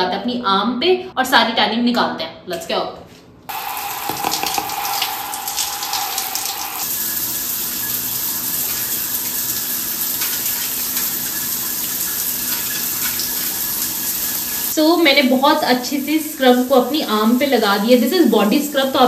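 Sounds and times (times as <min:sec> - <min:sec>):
shower water running: 0:03.5 - 0:19.0.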